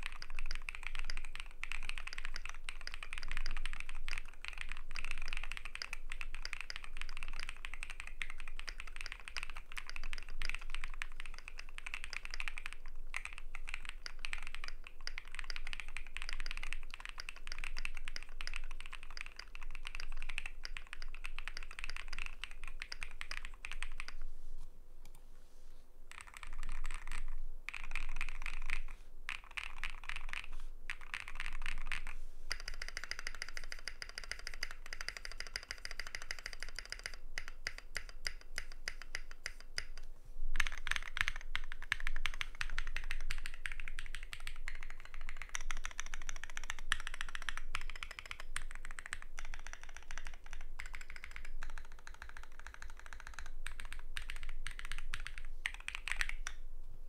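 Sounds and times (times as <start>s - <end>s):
mechanical keyboard typing: 0.0s - 24.2s, 26.1s - 56.6s.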